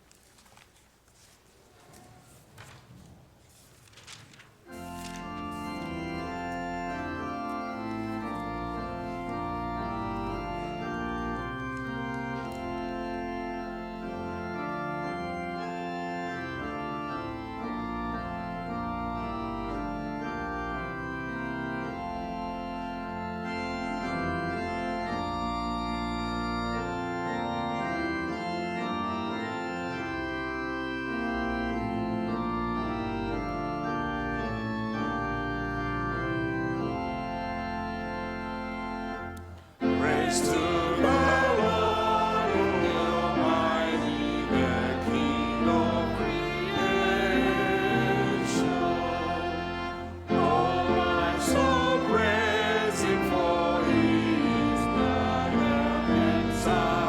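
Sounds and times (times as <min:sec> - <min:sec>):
organ playing held chords: 0:04.6 - 0:57.0
congregation singing a hymn: 0:04.7 - 0:57.0.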